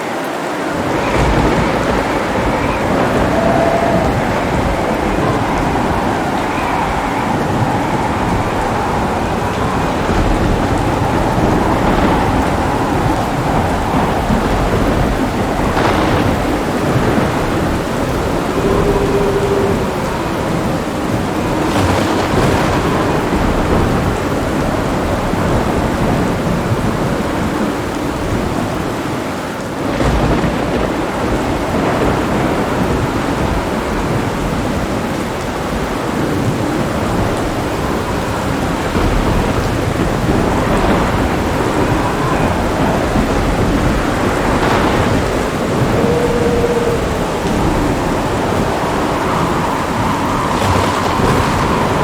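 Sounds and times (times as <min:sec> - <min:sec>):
heavy rain: 0:00.0 - 0:52.0
thunder rumbling: 0:00.0 - 0:52.0.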